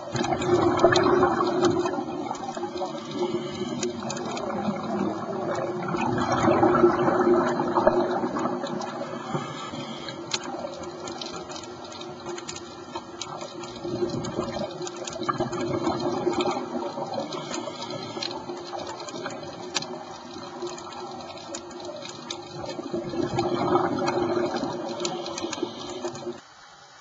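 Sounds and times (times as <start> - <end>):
underwater bubbles gurgling: 0.0 - 27.0
faint clicks: 0.1 - 26.5.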